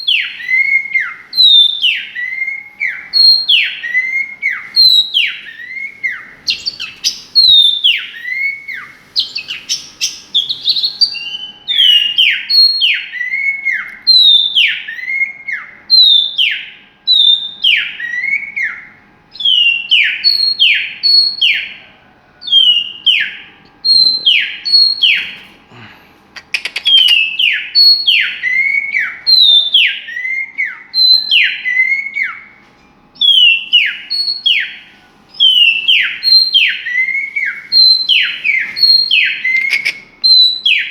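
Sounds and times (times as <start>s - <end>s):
songbird whistling descending notes: 0.0s - 25.4s, 26.6s - 32.6s, 33.2s - 40.9s.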